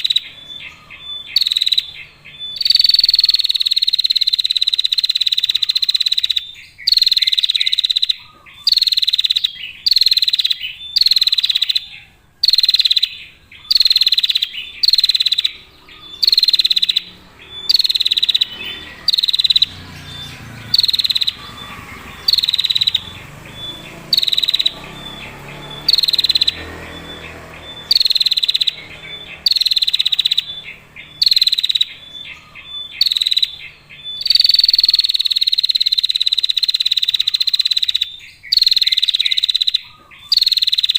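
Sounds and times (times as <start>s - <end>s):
bird buzzy trill calls: 0.0s - 40.9s.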